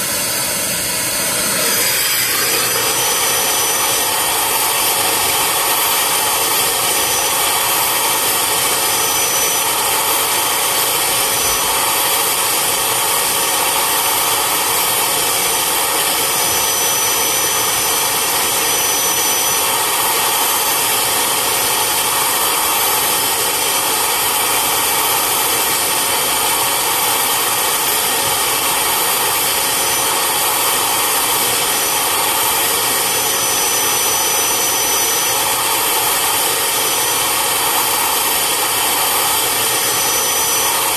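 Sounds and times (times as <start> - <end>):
vacuum motor running: 0.0 - 40.9.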